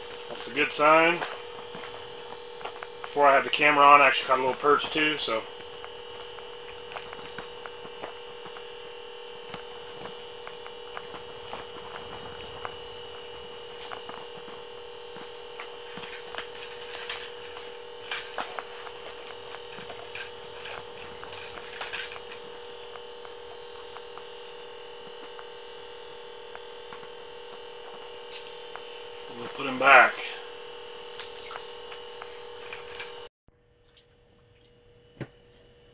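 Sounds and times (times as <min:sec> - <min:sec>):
electronic hum: 0:00.0 - 0:35.9.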